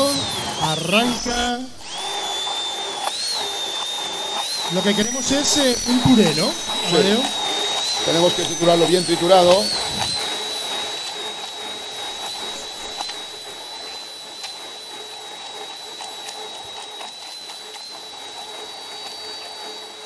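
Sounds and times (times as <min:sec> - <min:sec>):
immersion blender whining: 0:00.0 - 0:20.0.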